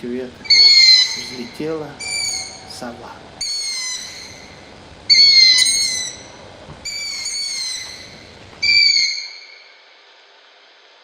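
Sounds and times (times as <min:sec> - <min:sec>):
owl calling: 0:00.2 - 0:09.8.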